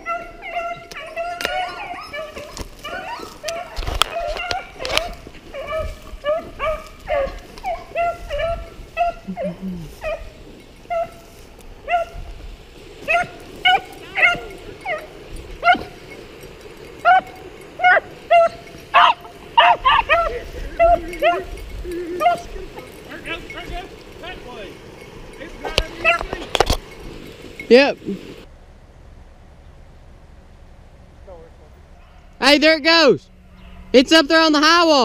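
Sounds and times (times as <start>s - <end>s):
beagles baying: 0.0s - 28.5s, 31.8s - 35.0s.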